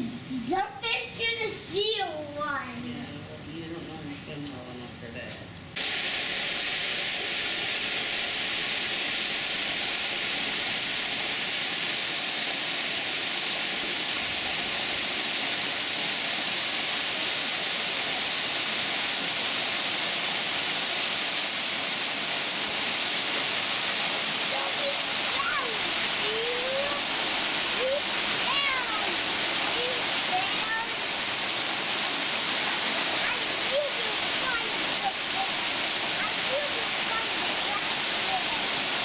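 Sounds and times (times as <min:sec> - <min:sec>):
waterfall rushing: 0:05.8 - 0:39.0.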